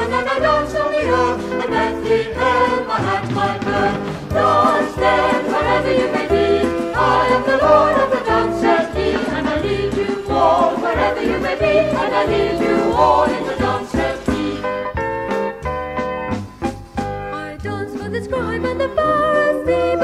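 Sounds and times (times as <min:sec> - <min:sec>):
vocal group singing in harmony: 0:00.0 - 0:14.8, 0:17.7 - 0:20.0
instrumental accompaniment with bass: 0:00.0 - 0:20.0.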